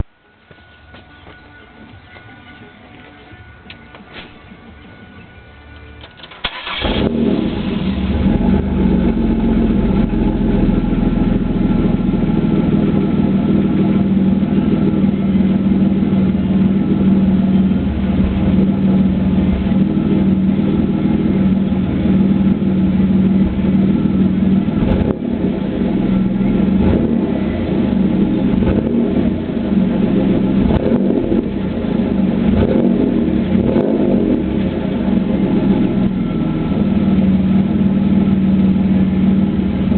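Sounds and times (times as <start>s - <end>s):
car engine starting and idling: 0.0s - 39.9s
exhaust misfiring: 6.0s - 39.9s.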